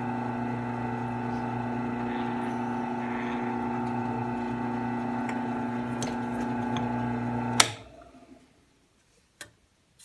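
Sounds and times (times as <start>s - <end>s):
drill press motor humming: 0.0s - 8.2s.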